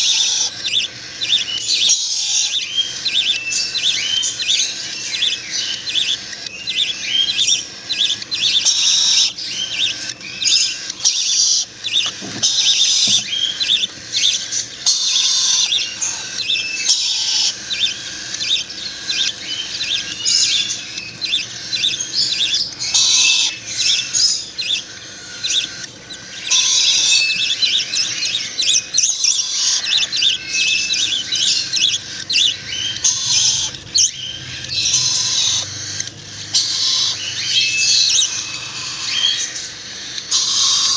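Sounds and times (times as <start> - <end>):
bird chicks chirping: 0.0 - 40.9.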